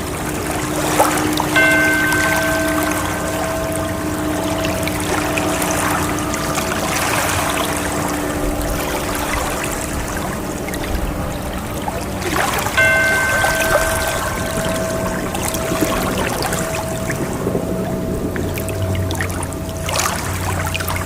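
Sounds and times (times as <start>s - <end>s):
faint steady tone: 0.0s - 21.0s
ocean water lapping: 0.0s - 21.0s.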